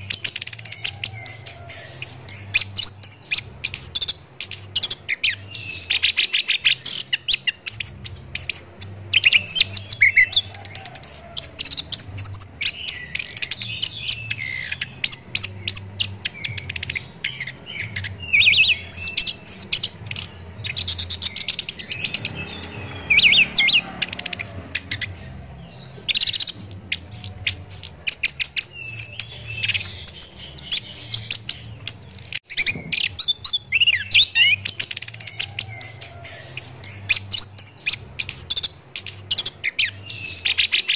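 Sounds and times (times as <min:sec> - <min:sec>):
thrush singing: 0:00.0 - 0:40.9.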